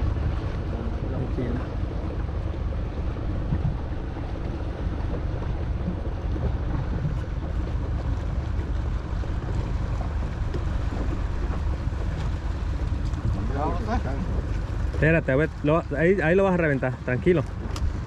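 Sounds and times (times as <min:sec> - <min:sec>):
waves washing against hull: 0:00.0 - 0:18.0
wind rumbling on microphone: 0:00.0 - 0:18.0.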